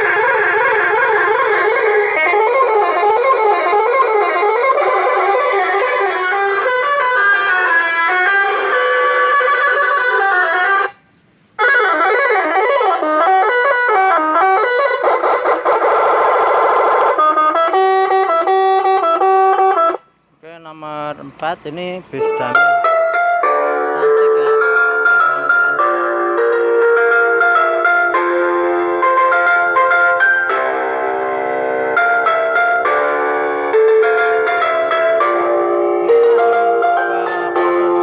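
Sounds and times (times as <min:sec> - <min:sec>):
electronic bus horn melody: 0:00.0 - 0:11.0, 0:11.6 - 0:38.0.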